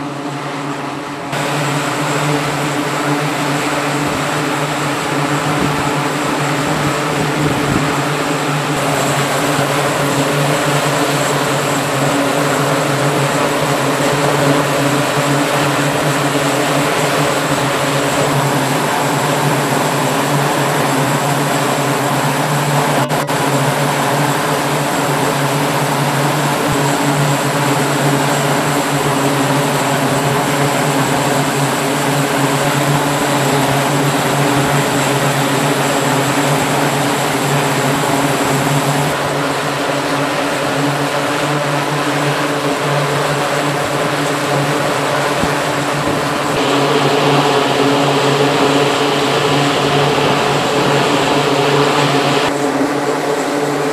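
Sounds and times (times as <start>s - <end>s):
turboprop engines humming: 0.0s - 53.9s.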